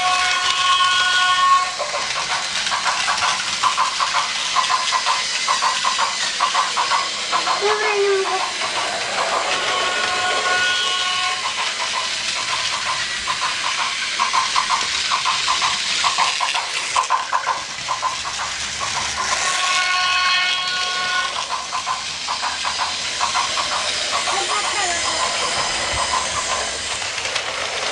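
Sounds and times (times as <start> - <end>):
toy train whirring and clicking: 0.0 - 27.9.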